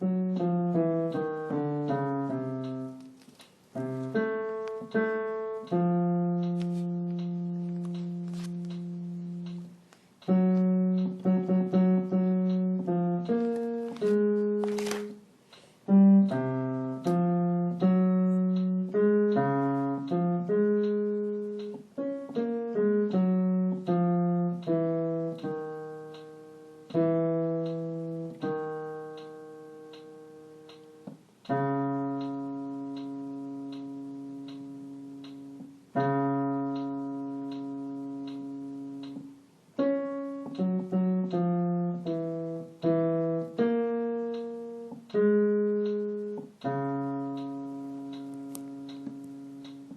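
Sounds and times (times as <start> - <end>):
low piano notes: 0.0 - 49.9.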